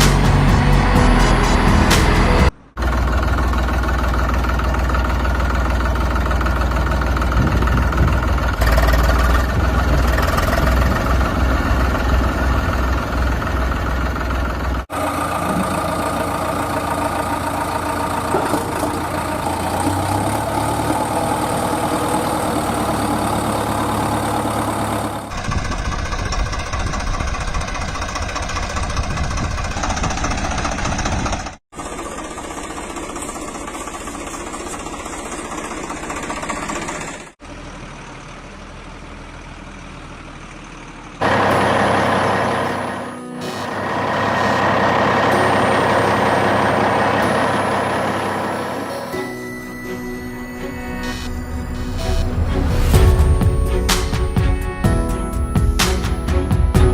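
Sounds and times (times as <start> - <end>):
diesel engine idling with knocking: 0.0 - 49.0.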